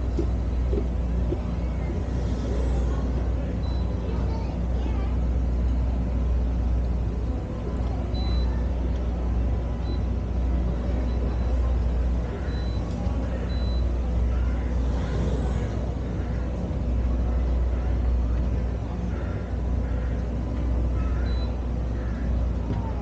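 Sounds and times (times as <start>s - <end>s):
boat engine low rumble: 0.0s - 23.0s
people chatting faintly: 0.0s - 23.0s.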